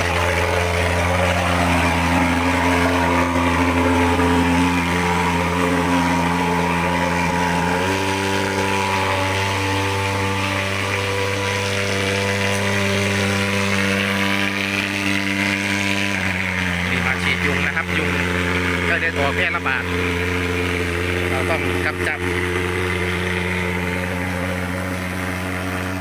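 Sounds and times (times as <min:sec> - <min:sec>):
pulse-jet engine buzzing drone: 0:00.0 - 0:26.0.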